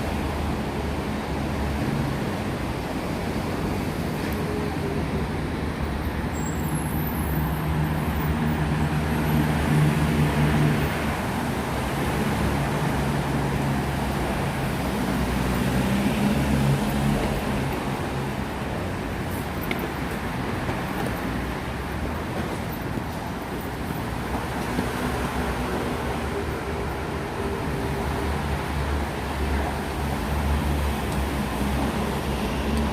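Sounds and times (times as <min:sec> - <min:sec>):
road noise: 0:00.0 - 0:32.9.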